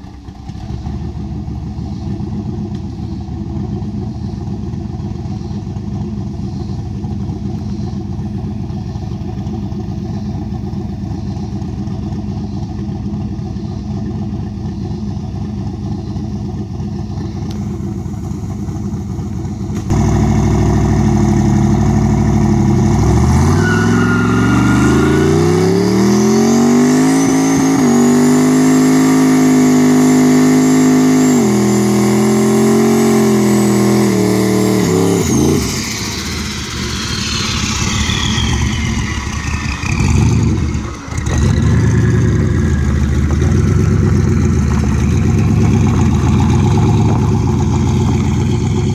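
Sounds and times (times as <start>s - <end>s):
car engine idling and revving: 0.0s - 48.9s
high turbo whine: 0.0s - 48.9s.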